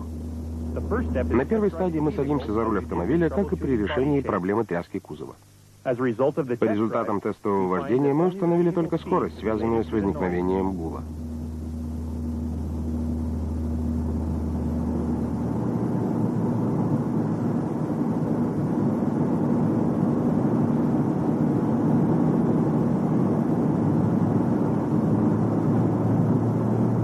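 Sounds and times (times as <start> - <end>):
car driveline drone: 0.0 - 4.3, 7.8 - 27.0.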